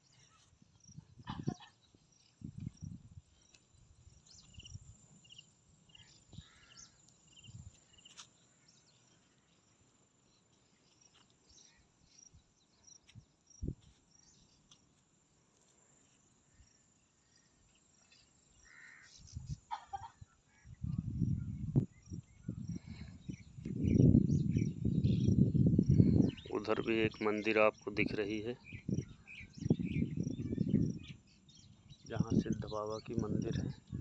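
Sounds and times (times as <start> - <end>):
small birds chirping: 0.0 - 15.0, 15.6 - 34.0.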